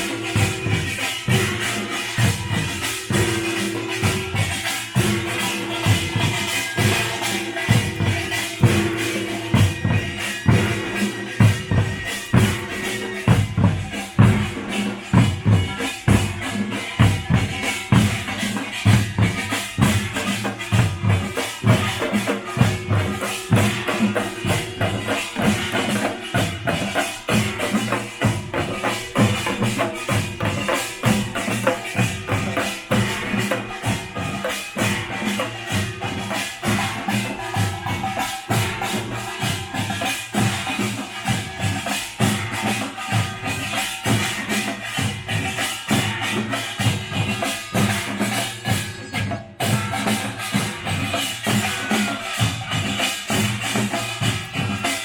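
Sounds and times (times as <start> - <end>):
folk percussion band playing: 0.0 - 55.0.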